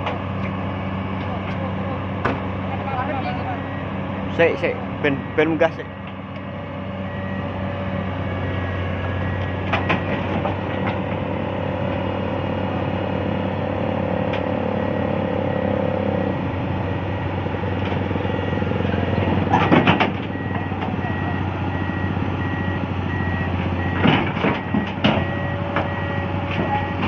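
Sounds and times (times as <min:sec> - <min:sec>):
excavator diesel engine under load: 0:00.0 - 0:27.0.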